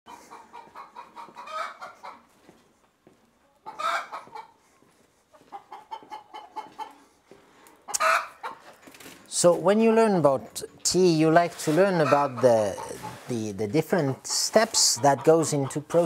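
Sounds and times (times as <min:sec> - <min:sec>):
chickens clucking: 0:00.1 - 0:02.4, 0:03.4 - 0:09.0, 0:09.8 - 0:16.0.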